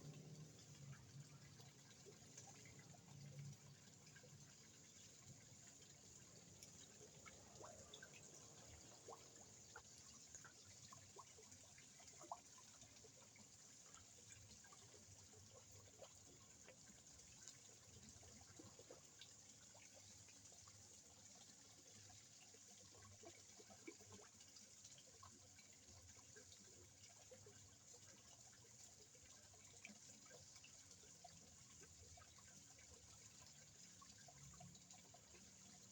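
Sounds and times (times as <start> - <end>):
water trickling and dripping: 0.0 - 35.9.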